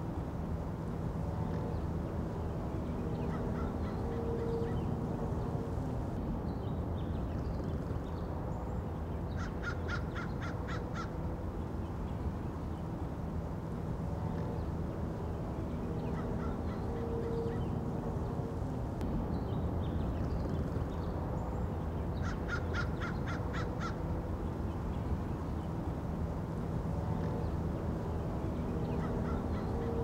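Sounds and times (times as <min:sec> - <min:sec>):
low street rumble: 0:00.0 - 0:30.0.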